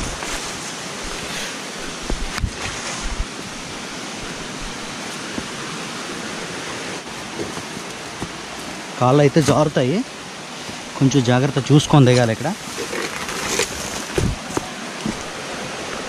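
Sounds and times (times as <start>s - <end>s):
rushing falling water: 0.0s - 16.0s.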